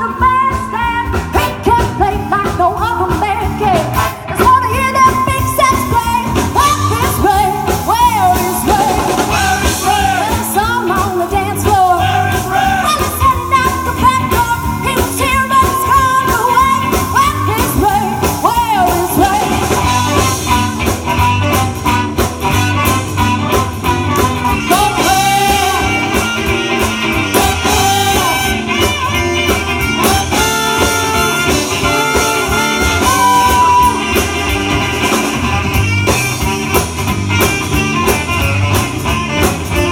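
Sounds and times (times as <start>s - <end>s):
woman singing lead: 0.0s - 21.6s, 24.4s - 35.7s
bass guitar: 0.0s - 39.9s
drums: 0.0s - 39.9s
electric guitar: 0.0s - 39.9s
horn section: 3.4s - 39.9s.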